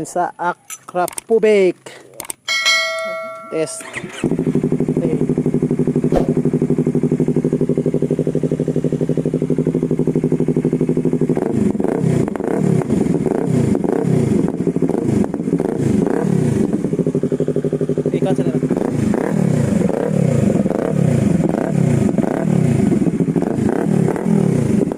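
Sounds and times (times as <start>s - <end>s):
motorcycle engine idling: 1.3s - 24.9s
motorcycle throttle revs: 3.7s - 24.9s.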